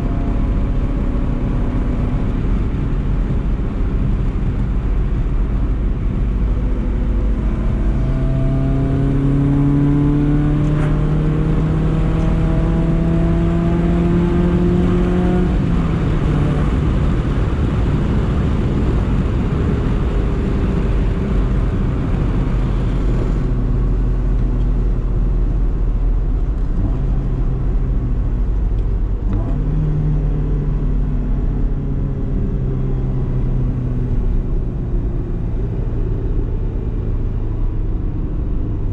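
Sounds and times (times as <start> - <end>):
car engine accelerating: 0.0 - 38.9
road rumble: 0.0 - 38.9.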